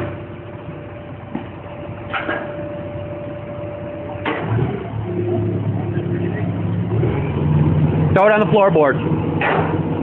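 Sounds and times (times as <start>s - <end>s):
constant whine: 0.0s - 10.0s
engine running: 0.0s - 10.0s.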